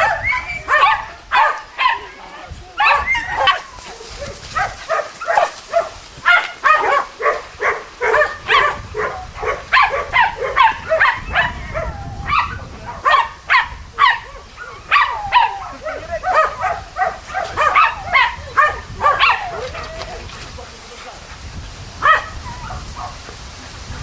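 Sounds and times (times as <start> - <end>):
dogs yapping: 0.0 - 20.6, 21.3 - 23.4.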